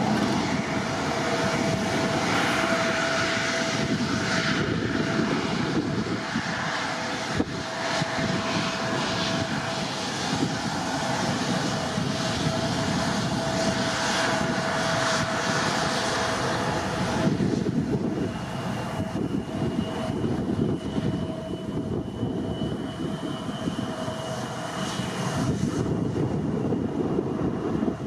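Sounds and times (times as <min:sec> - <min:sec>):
jet engines roaring: 0:00.0 - 0:28.0
taxiing jet whine: 0:00.0 - 0:28.0.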